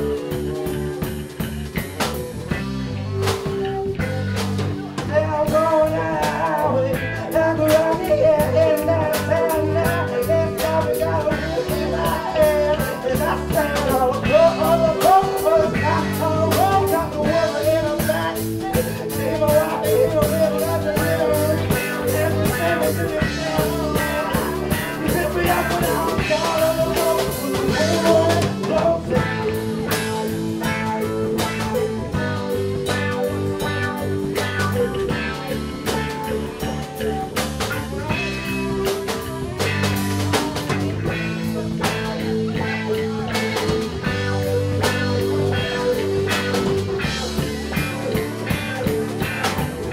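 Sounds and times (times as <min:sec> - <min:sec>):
live band playing blues-rock: 0:00.0 - 0:49.9
saxophone lead melody: 0:00.0 - 0:49.9.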